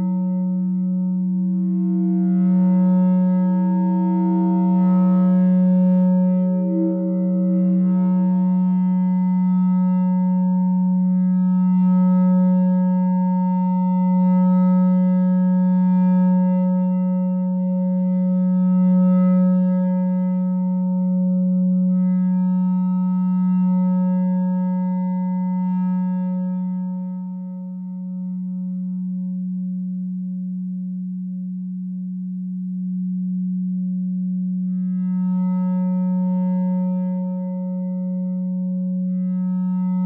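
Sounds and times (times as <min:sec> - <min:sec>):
feedback drone with overtones: 0:00.0 - 0:40.0.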